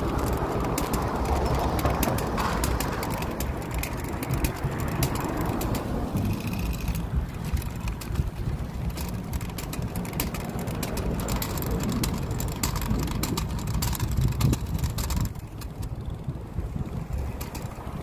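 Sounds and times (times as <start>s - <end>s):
bicycle clicks and rattles: 0.0s - 18.0s
wind buffeting microphone: 0.0s - 18.0s.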